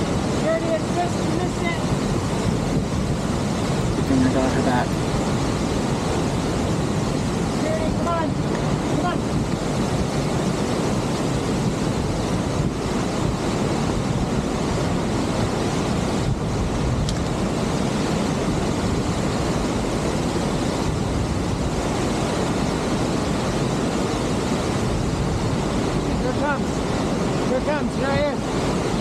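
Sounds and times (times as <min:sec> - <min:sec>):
river churning: 0:00.0 - 0:29.0
waterfall roar: 0:00.0 - 0:29.0
wind rumble on microphone: 0:00.0 - 0:29.0.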